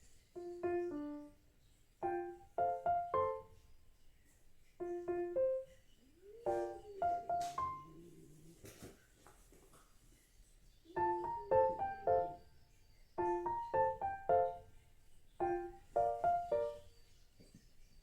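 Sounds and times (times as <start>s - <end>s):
gentle piano melody: 0.0s - 8.2s, 10.8s - 17.5s.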